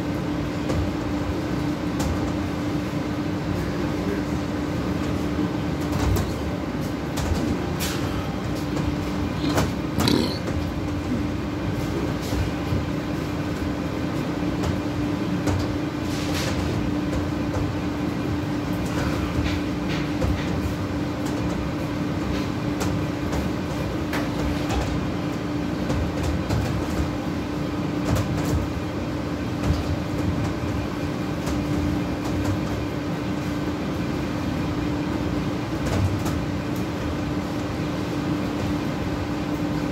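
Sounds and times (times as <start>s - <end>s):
kitchen machinery hum: 0.0s - 39.9s.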